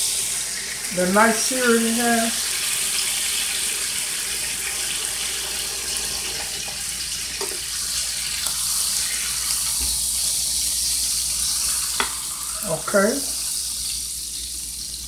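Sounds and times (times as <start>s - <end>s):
meat sizzling in frying pan: 0.0s - 15.0s.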